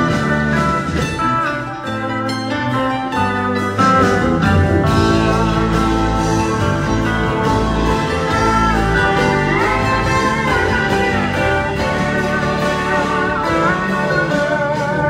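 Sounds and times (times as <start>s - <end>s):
live band instrumental: 0.0s - 15.0s.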